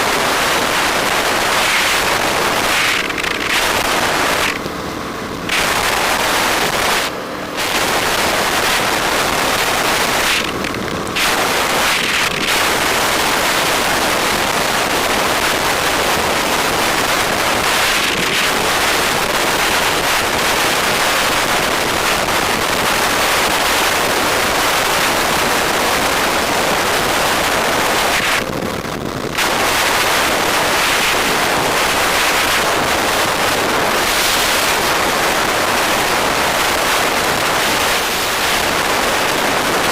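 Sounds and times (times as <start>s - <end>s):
wind rush over microphone: 0.0s - 39.9s.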